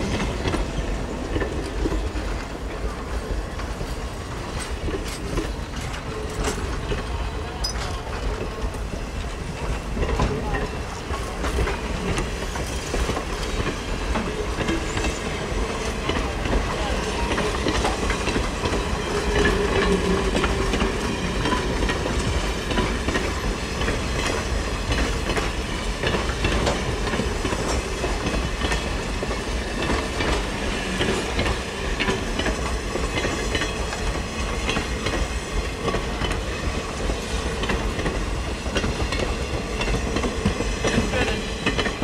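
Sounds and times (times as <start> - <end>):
train wheels rumbling: 0.0 - 42.0
wheels clicking over rail joints: 0.0 - 42.0.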